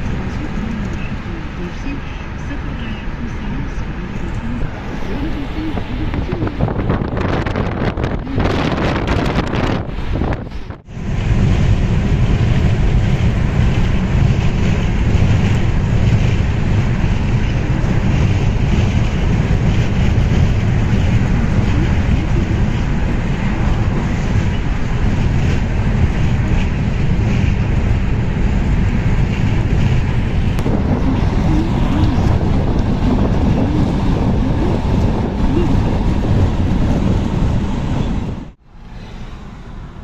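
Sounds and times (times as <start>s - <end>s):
wind buffeting microphone: 0.0s - 38.6s.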